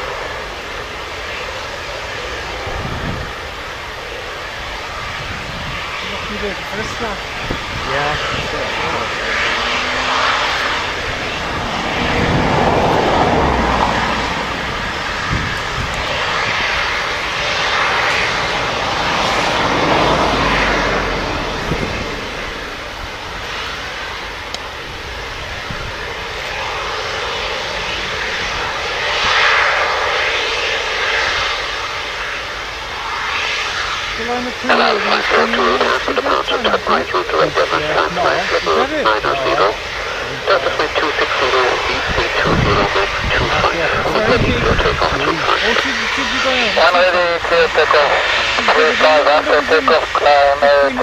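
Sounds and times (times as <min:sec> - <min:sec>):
jet engines rushing: 0:00.0 - 0:51.0.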